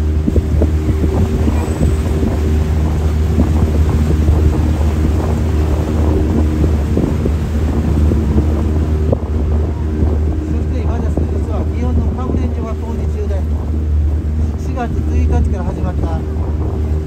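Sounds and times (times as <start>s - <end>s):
boat engine droning: 0.0s - 17.0s
wind noise on microphone: 0.0s - 17.0s.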